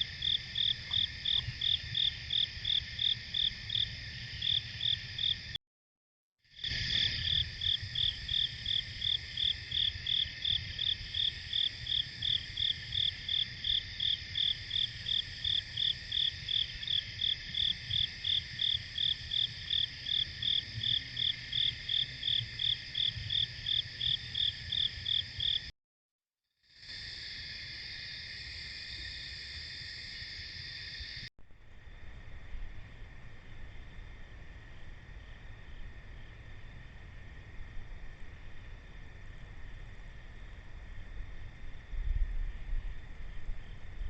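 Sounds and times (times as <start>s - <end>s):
cricket chirping: 0.0s - 5.6s, 6.5s - 25.7s, 26.7s - 44.0s
night insects chorus: 0.0s - 5.6s, 6.5s - 25.7s, 26.7s - 44.0s.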